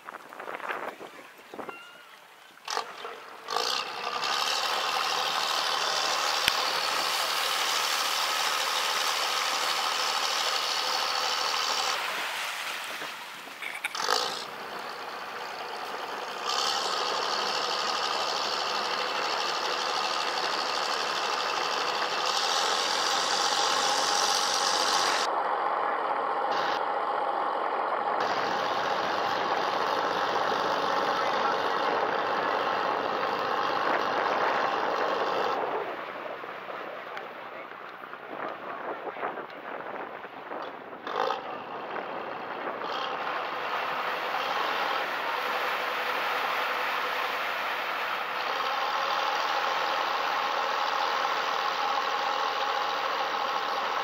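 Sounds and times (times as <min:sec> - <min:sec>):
ferry engine running: 0:01.8 - 0:54.0.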